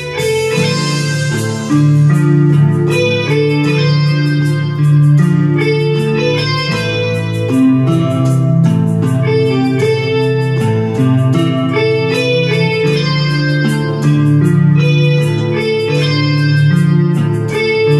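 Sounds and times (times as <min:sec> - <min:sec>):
electronic keyboard playing: 0:00.0 - 0:17.9.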